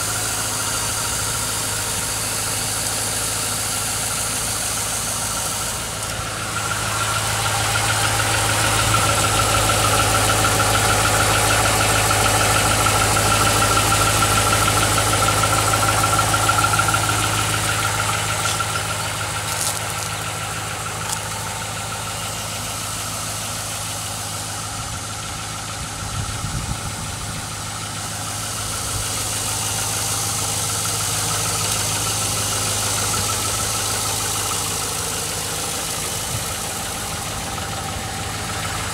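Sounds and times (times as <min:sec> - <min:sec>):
engine idling with light knock: 0:00.0 - 0:38.9.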